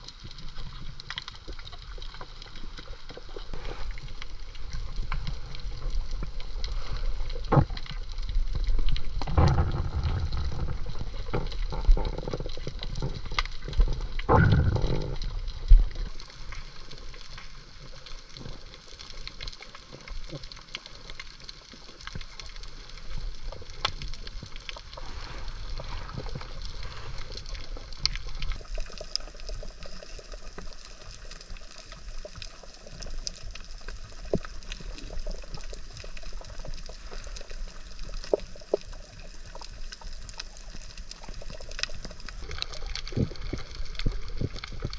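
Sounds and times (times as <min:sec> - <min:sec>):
sea water sloshing and splashing: 0:00.0 - 0:44.9.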